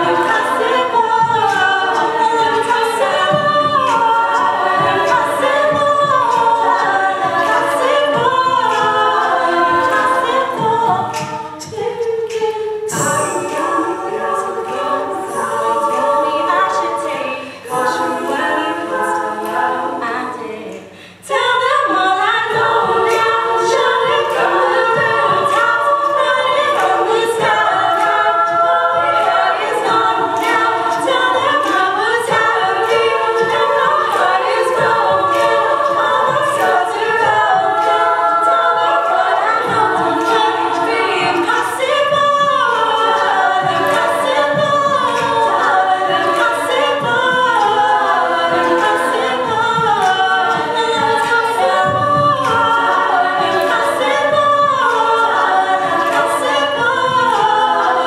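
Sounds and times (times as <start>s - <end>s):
women singing a cappella harmony: 0.0s - 58.0s.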